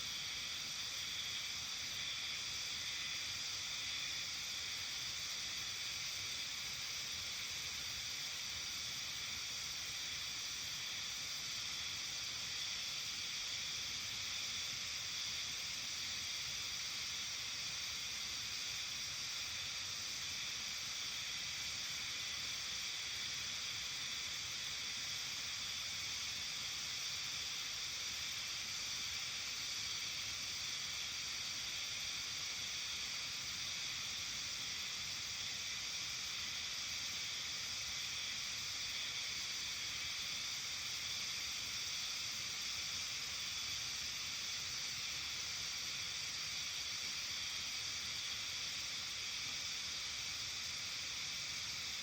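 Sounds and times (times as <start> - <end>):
continuous high-pitched hiss: 0.0 - 52.0.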